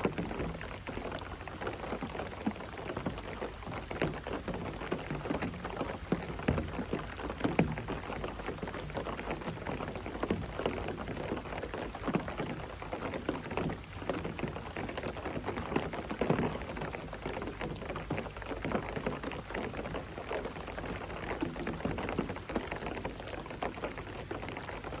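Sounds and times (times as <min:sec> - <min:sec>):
rain falling: 0:00.0 - 0:25.0
raindrops landing close by: 0:00.0 - 0:25.0.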